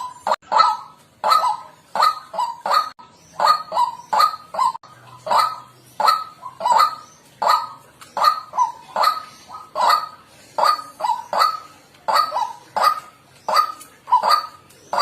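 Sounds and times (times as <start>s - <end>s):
waterhen harsh nasal calls: 0.0s - 15.0s.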